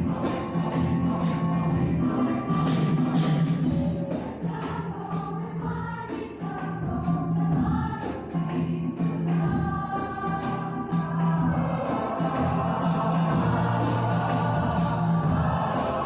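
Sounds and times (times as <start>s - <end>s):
choir singing: 0.0s - 16.0s
sharp percussion strokes: 0.0s - 16.0s.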